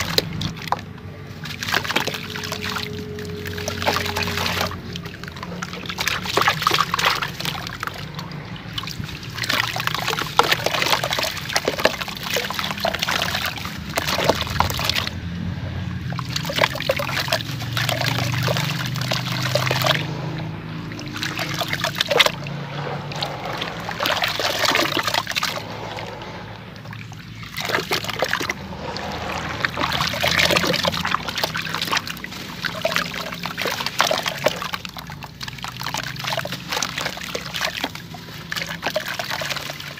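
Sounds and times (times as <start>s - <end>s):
water sloshing: 0.0s - 39.9s
water splashing and trickling: 0.0s - 39.9s.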